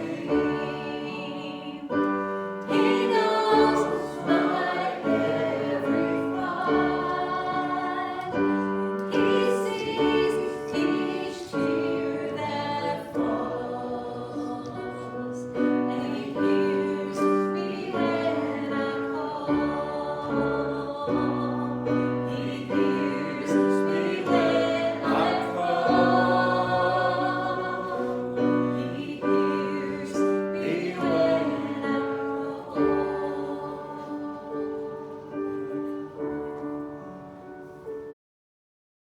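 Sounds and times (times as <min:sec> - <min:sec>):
congregation singing a hymn: 0:00.0 - 0:37.8.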